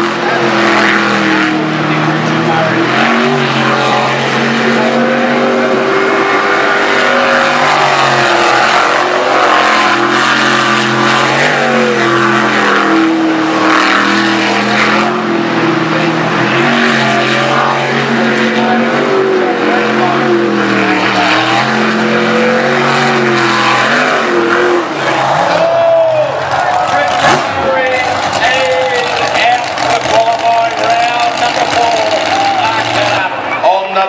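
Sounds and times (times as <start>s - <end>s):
boat engine revving: 0.0s - 34.0s.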